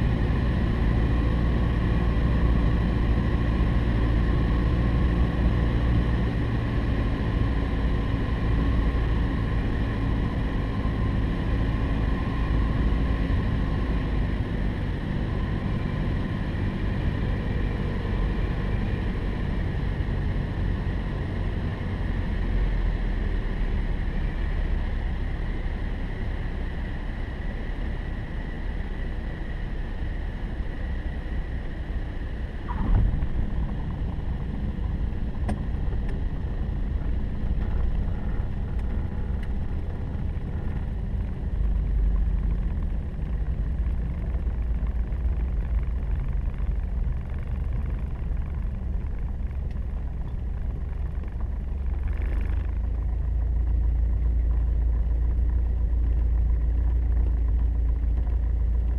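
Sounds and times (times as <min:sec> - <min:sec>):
light aircraft piston engine: 0:00.0 - 0:58.9.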